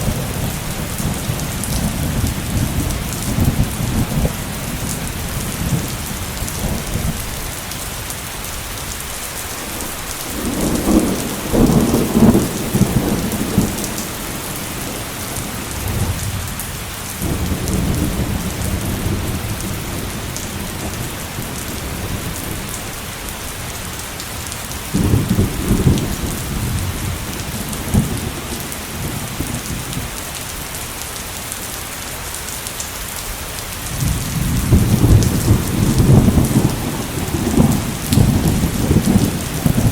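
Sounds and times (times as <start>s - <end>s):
thunder rumbling: 0.0s - 30.4s, 33.8s - 39.9s
heavy rain: 0.0s - 39.9s.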